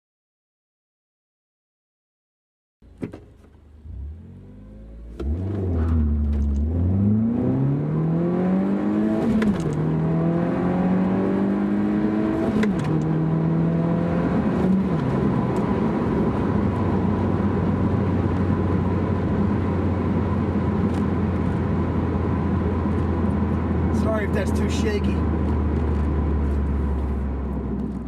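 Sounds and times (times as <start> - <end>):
car engine accelerating hard: 3.8 - 28.0.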